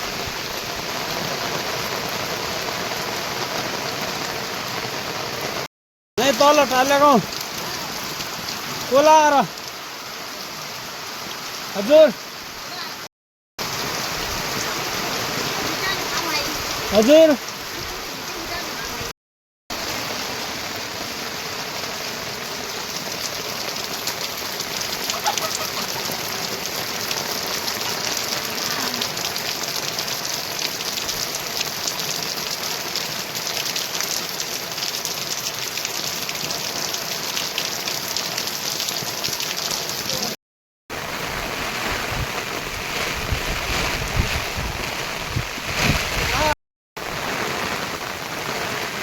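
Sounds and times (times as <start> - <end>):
heavy rain falling: 0.0 - 19.1, 19.7 - 49.0.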